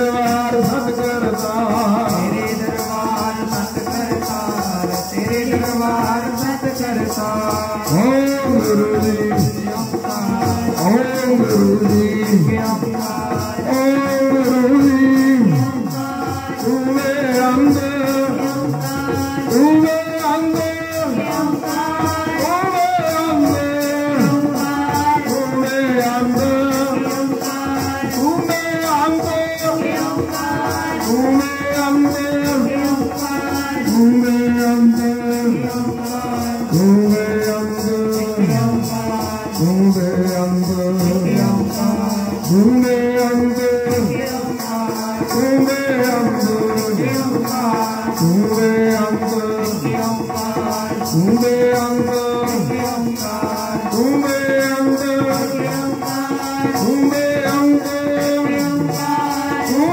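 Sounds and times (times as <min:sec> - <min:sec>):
person singing: 0:00.0 - 0:59.9
rattling percussion beat: 0:00.0 - 0:59.9.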